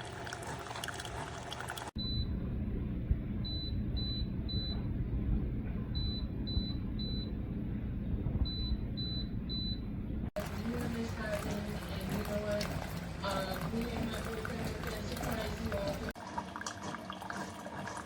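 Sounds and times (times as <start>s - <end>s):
steady low hum: 1.6s - 16.2s.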